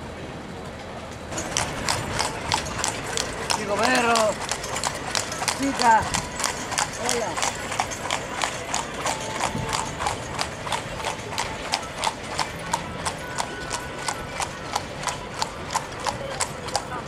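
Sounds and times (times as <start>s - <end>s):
horse hooves clip-clopping on asphalt: 0.7s - 17.0s.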